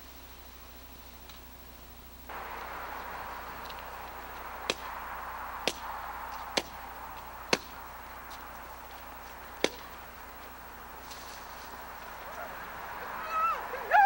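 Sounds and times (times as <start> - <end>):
steady hiss: 0.0 - 14.0
sharp cracks: 2.3 - 14.0.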